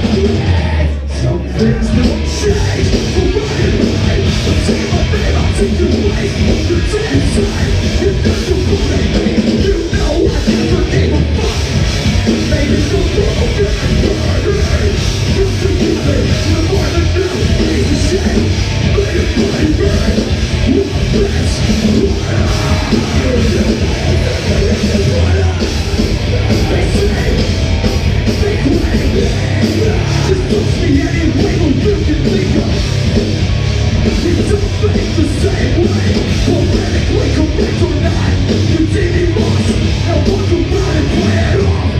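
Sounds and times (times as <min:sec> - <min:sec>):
heavy distorted rock band: 0:00.0 - 0:41.9
pounding drums: 0:01.8 - 0:41.9.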